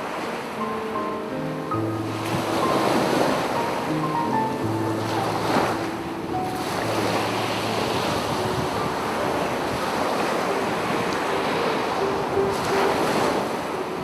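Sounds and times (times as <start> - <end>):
faint piano notes: 0.0 - 14.0
sea waves breaking on beach: 0.0 - 14.0.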